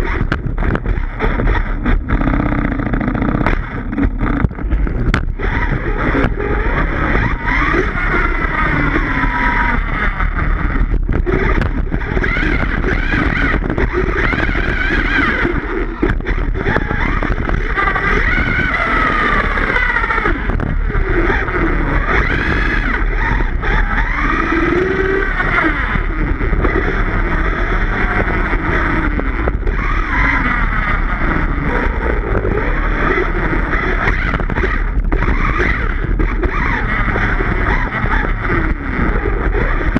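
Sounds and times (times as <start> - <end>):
electric motor whining: 0.0 - 39.9
steady rushing noise: 0.0 - 39.9.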